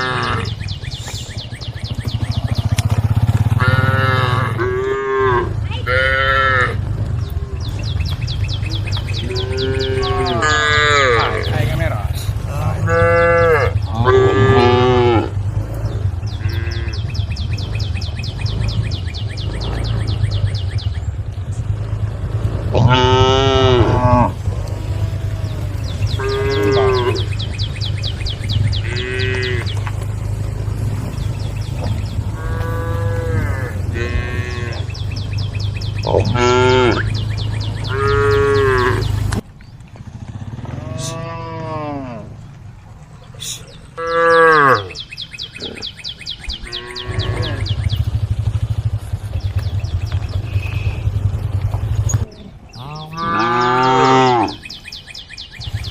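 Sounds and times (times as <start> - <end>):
cows mooing: 0.0 - 1.1, 2.0 - 20.6, 21.3 - 39.4, 40.5 - 42.6, 43.3 - 54.9
steady low rumble: 0.0 - 44.0, 45.0 - 53.8.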